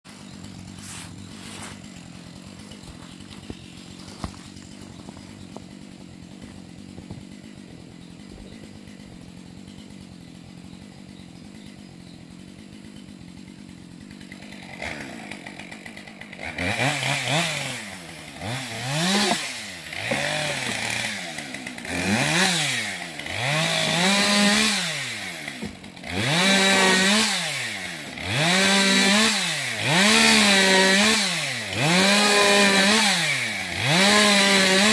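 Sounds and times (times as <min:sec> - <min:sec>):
chainsaw idling and revving: 0:00.0 - 0:34.9.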